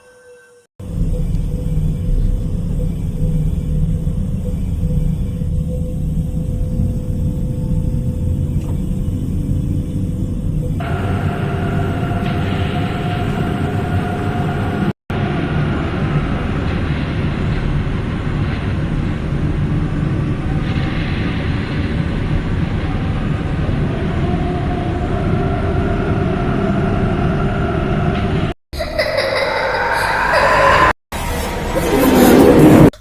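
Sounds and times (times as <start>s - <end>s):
loud rumbling drone: 0.8s - 33.0s.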